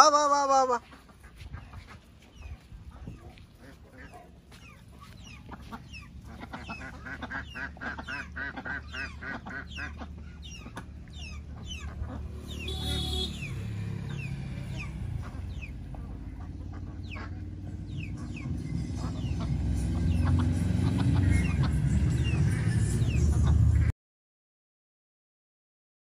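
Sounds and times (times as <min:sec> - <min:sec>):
chickens chirping: 0:00.0 - 0:23.9.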